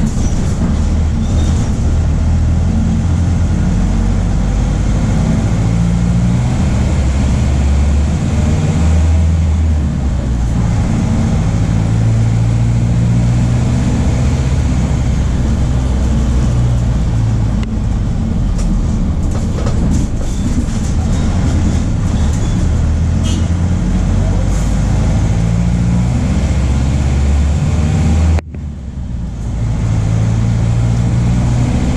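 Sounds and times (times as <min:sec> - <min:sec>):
diesel bus engine running: 0:00.0 - 0:31.9.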